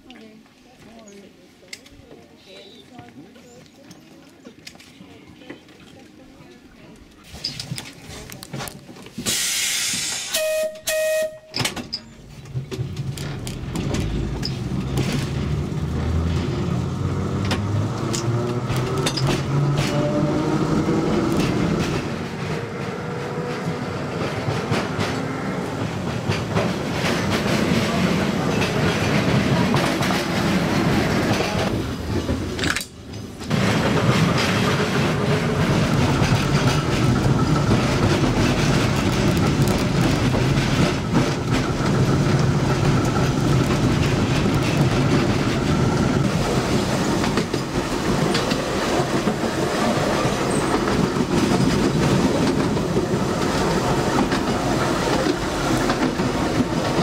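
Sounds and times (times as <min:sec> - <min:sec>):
tram wheels rumbling on rails: 0:03.0 - 0:57.0.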